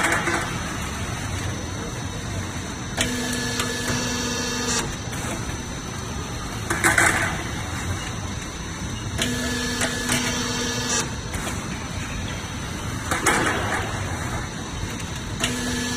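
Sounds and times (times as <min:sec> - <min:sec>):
machine hum: 0:00.0 - 0:15.9.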